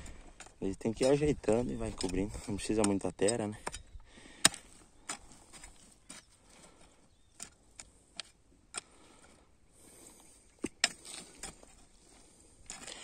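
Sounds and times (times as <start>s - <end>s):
hoe scraping and knocking soil: 0.0s - 13.0s.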